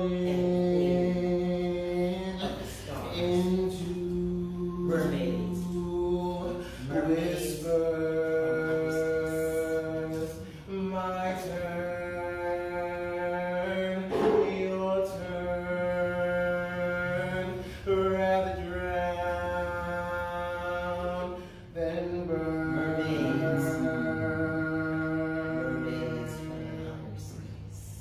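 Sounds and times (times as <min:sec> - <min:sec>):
wordless chanted singing: 0:00.0 - 0:28.0.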